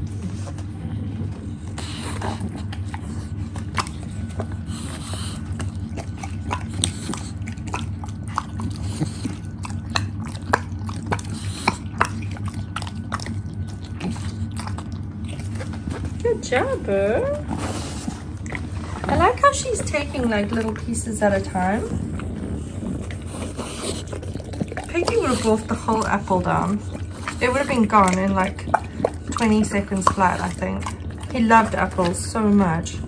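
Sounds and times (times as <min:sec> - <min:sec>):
dog chewing with smacks and clicks: 0:00.0 - 0:33.0
dog slobbering: 0:00.0 - 0:33.0
steady low hum: 0:00.0 - 0:33.0.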